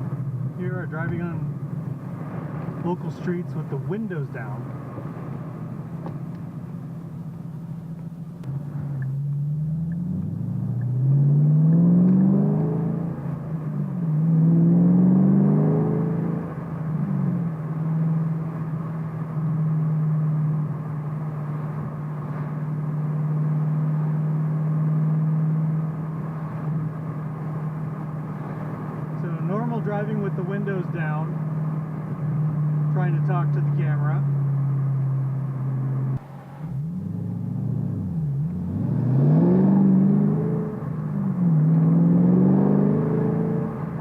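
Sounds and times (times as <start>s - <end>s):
car engine revving and cruising: 0.0s - 44.0s.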